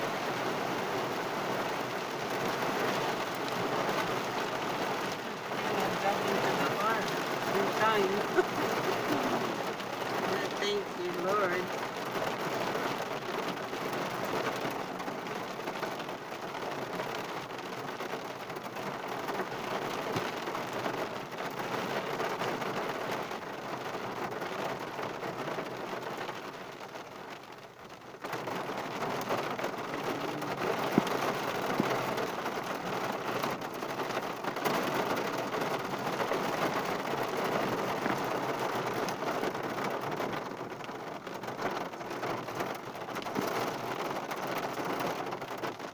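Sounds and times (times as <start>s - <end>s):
heavy rain on a car: 0.0s - 45.9s.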